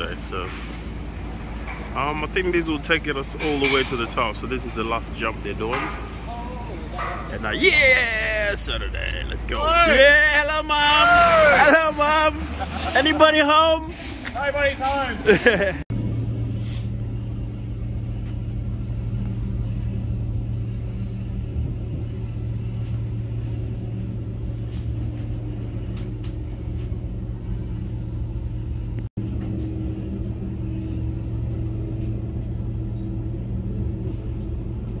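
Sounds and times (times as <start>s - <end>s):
train running rumble: 0.0s - 35.0s.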